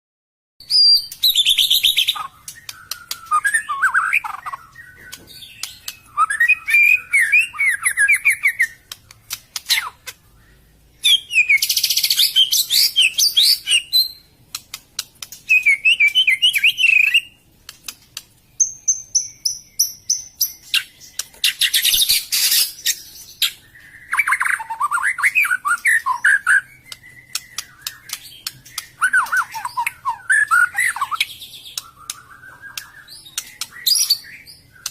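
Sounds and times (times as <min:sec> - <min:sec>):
songbird singing: 0:00.6 - 0:34.9.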